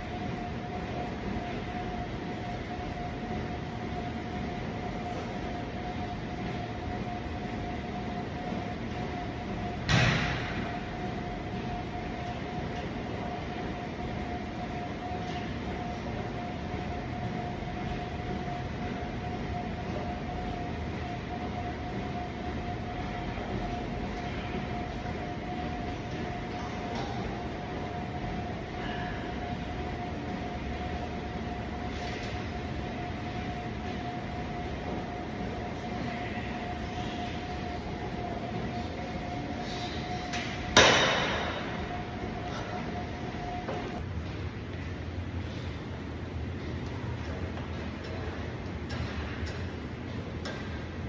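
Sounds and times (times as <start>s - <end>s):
constant hum: 0.0s - 51.0s.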